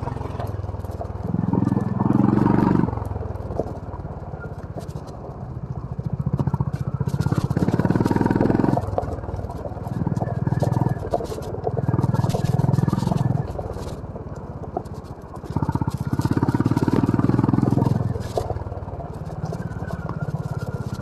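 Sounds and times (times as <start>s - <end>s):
motorcycle engine revving: 0.0s - 21.0s
sharp clicks and rattles: 0.0s - 21.0s.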